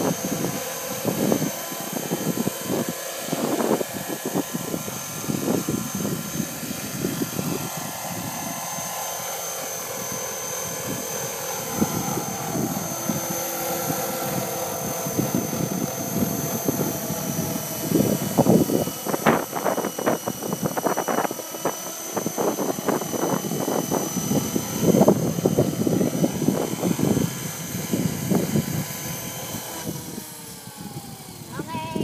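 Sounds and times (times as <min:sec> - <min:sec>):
helicopter rotor noise: 0:00.0 - 0:32.0
model helicopter motor whine: 0:00.0 - 0:32.0.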